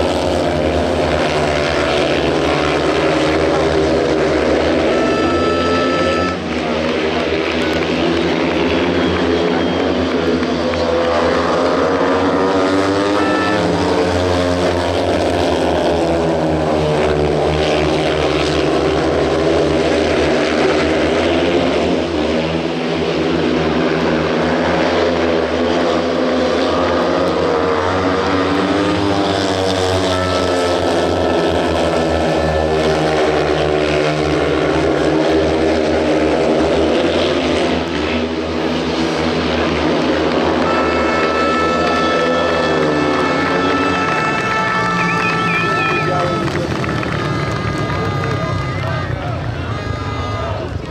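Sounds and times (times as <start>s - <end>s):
motorcycle engines racing: 0.0s - 50.9s.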